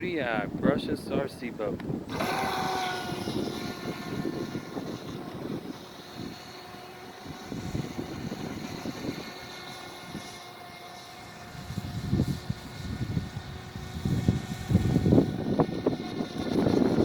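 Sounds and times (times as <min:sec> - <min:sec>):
boat motor whining: 0:00.0 - 0:17.0.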